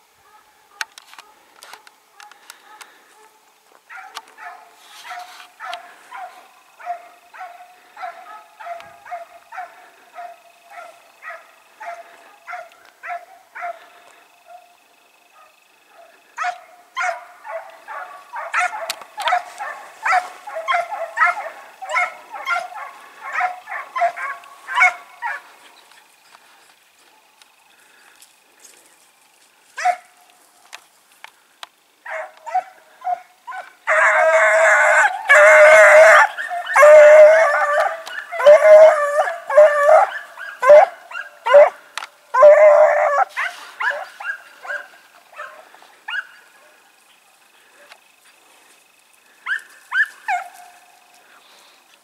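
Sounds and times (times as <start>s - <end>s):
hounds baying and howling: 0.1s - 27.2s, 29.8s - 30.8s, 32.0s - 51.8s.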